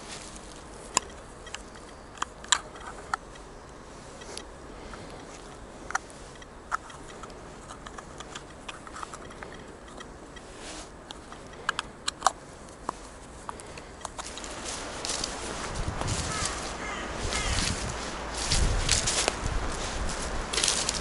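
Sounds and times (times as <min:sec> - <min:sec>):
faint background rush: 0:00.0 - 0:21.0.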